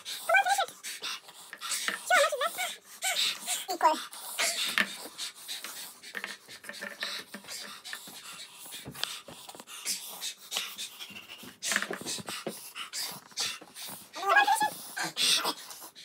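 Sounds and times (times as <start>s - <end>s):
person panting and hissing: 0.0s - 16.0s.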